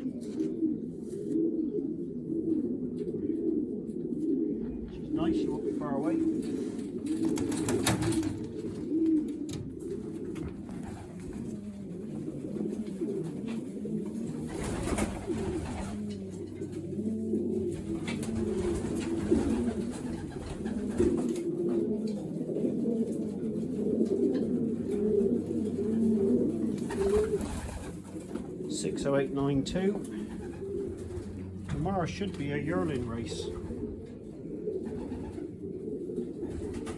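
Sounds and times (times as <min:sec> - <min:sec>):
pigeons cooing: 0:00.0 - 0:36.9.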